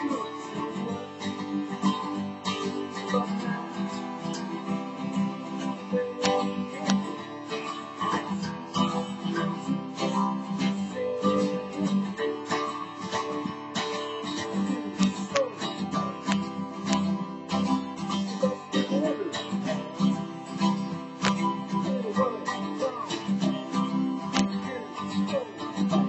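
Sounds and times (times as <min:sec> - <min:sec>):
acoustic guitar strumming: 0:00.0 - 0:26.0
man singing: 0:00.0 - 0:26.0.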